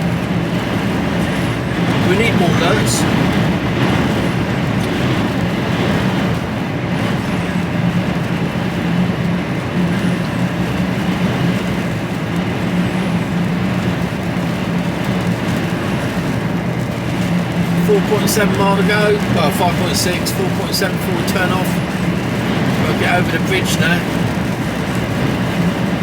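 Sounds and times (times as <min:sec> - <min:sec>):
road noise: 0:00.0 - 0:26.0
truck engine drone: 0:00.0 - 0:26.0.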